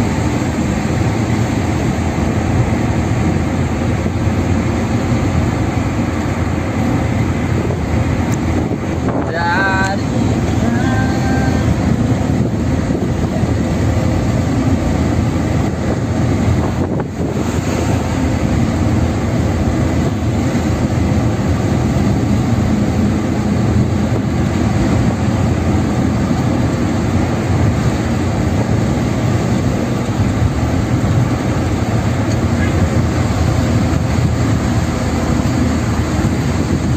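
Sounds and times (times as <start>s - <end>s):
car cruising on highway interior: 0.0s - 36.9s.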